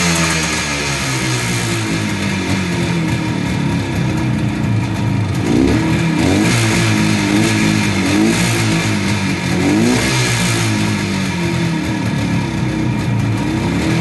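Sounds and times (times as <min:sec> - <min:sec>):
engine throttle blips: 0:00.0 - 0:14.0
two-stroke engine idling: 0:00.0 - 0:14.0.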